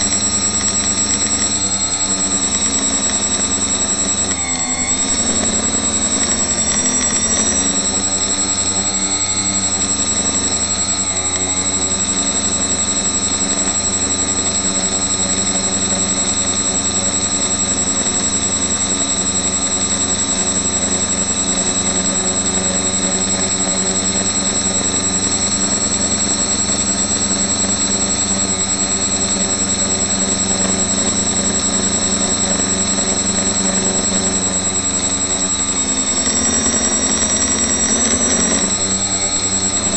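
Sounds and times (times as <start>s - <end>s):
high whine: 0.0s - 39.9s
quadcopter motors spinning: 0.0s - 39.9s.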